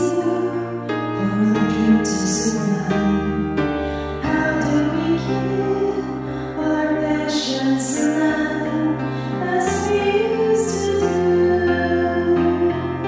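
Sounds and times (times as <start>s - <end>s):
person singing: 0.0s - 13.0s
slow ballad backing music: 0.0s - 13.0s.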